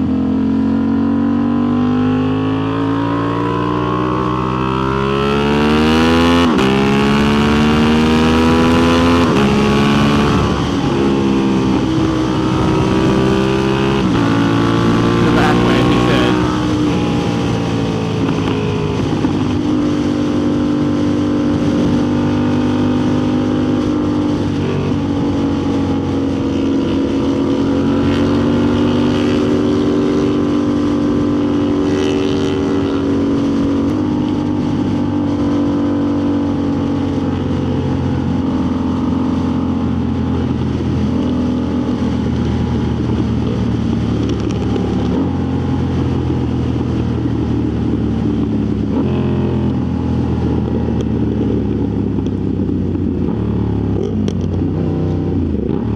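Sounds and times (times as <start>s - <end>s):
motorcycle engine running: 0.0s - 55.9s
wind noise on microphone: 2.4s - 55.9s.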